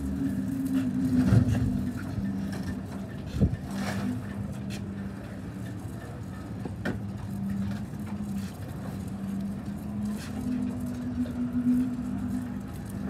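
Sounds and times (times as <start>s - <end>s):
engine-like hum: 0.0s - 13.0s.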